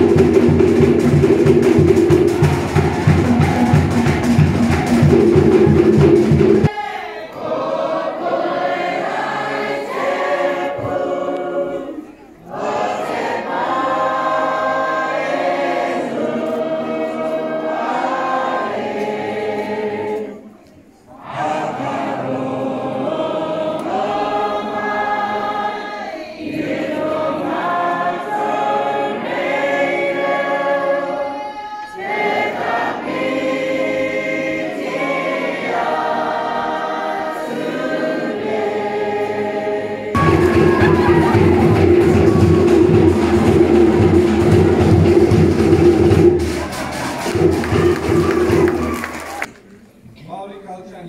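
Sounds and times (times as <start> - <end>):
choir singing slow song: 0.0 - 48.9.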